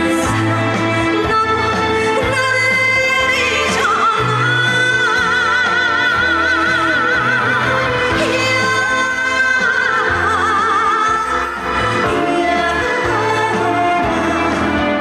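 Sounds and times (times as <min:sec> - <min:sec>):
bass line: 0:00.0 - 0:15.0
musical accompaniment: 0:00.0 - 0:15.0
woman singing with vibrato: 0:00.0 - 0:15.0.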